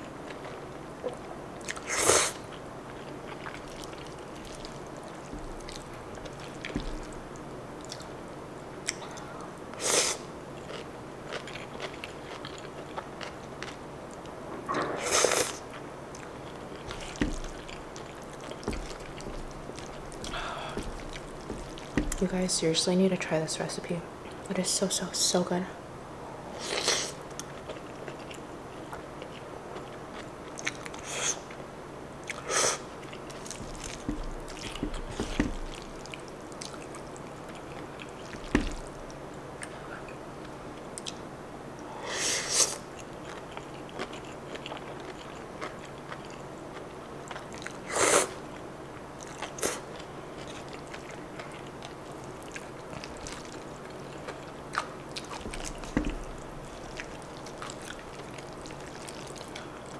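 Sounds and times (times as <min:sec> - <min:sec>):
chewing: 0:00.2 - 0:08.2, 0:10.6 - 0:14.4, 0:15.4 - 0:22.5, 0:26.8 - 0:31.6, 0:32.2 - 0:41.2, 0:42.8 - 0:59.9.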